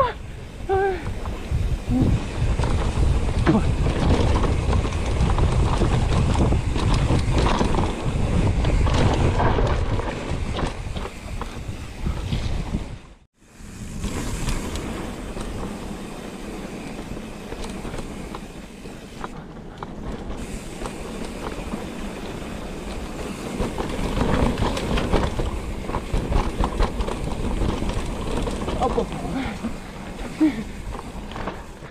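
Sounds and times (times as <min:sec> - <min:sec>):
bike tyre noise on dirt: 0:00.0 - 0:31.9
wind rumbling on microphone: 0:00.0 - 0:31.9
rattling clicks from bike: 0:00.8 - 0:12.8, 0:14.0 - 0:31.9.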